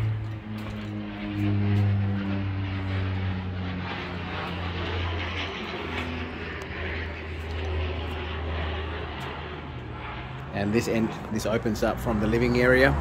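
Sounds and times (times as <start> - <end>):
distant engine rumble: 0.0 - 13.0.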